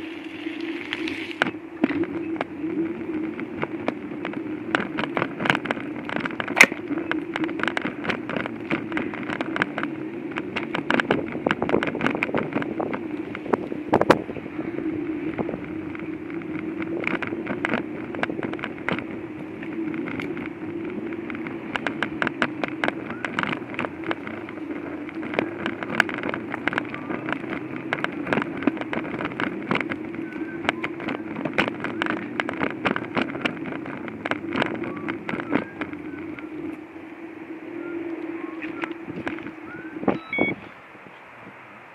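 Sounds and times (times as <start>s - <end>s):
wheels clacking on tiles: 0.0s - 40.0s
motor hum of small vehicle: 0.0s - 41.9s.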